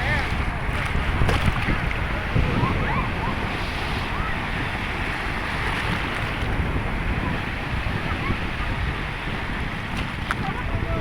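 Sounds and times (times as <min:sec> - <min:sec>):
surf: 0:00.0 - 0:11.0
wind: 0:00.0 - 0:11.0.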